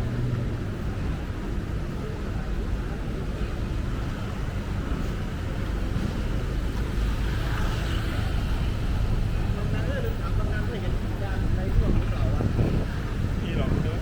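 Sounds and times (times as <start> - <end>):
passing traffic rumble: 0.0 - 14.0.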